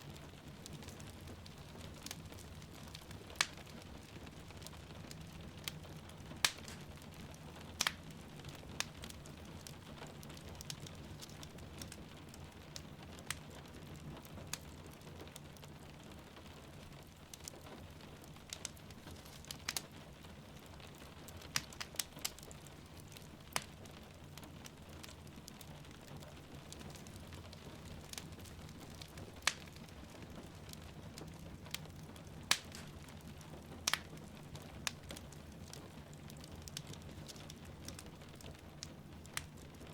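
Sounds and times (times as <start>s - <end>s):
soft steady rain: 0.0s - 39.9s
wood fire crackling: 0.0s - 39.9s.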